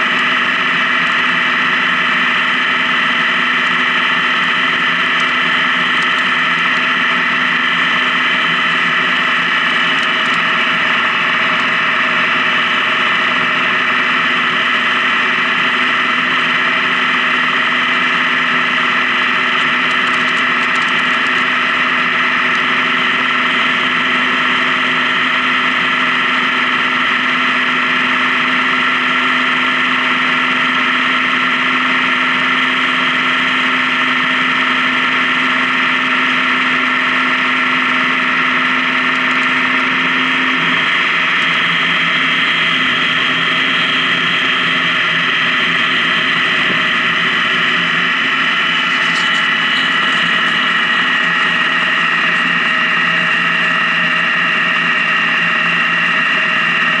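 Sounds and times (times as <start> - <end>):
motorcycle engine cruising: 0.0 - 57.0
road noise: 0.0 - 57.0.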